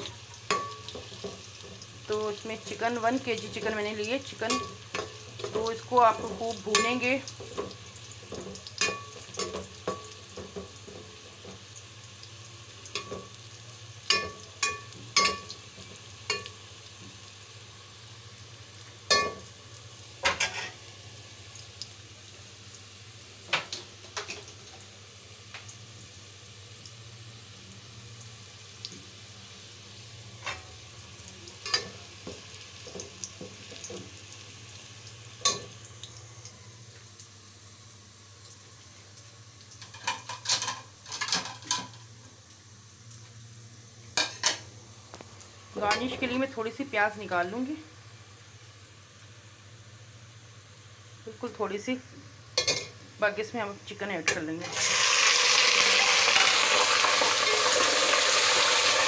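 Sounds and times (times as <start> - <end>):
onions sizzling in oil: 0.0 - 59.0.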